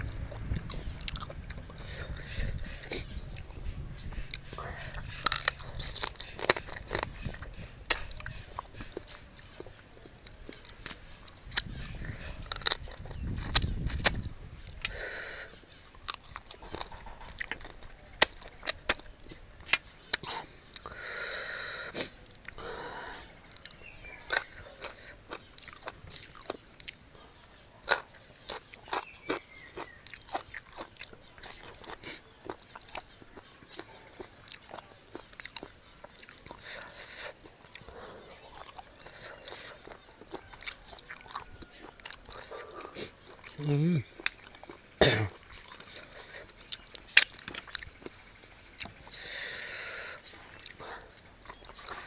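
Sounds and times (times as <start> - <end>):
chewing and crunching food: 0.0 - 52.0.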